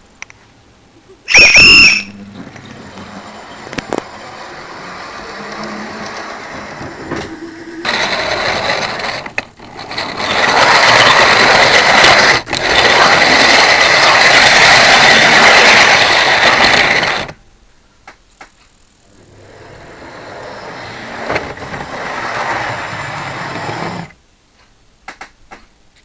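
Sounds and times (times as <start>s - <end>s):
model train rattling on track: 1.3s - 17.4s, 19.2s - 24.2s.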